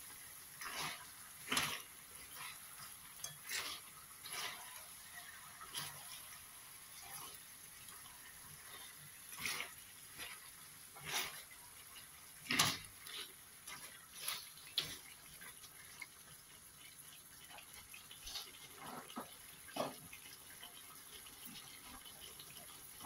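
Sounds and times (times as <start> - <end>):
spatula scraping a pan: 0.1 - 16.0, 17.6 - 20.6.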